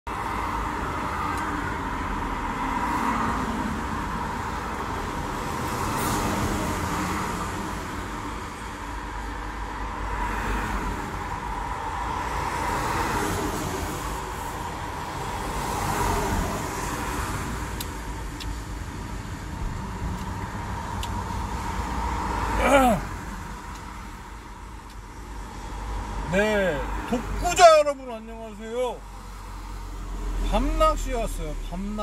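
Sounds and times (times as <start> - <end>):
steady outdoor rumbling: 0.1 - 32.0.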